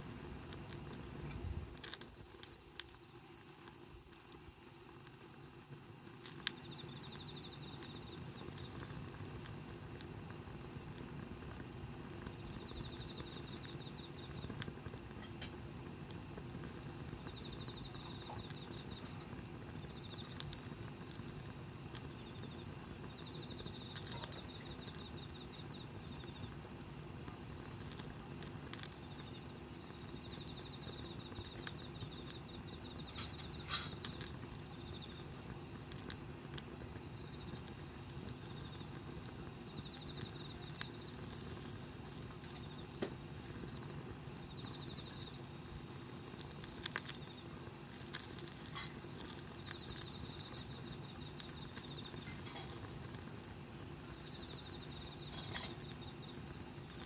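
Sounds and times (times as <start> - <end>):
insects trilling: 0.0 - 57.0
wood fire popping: 0.0 - 57.0.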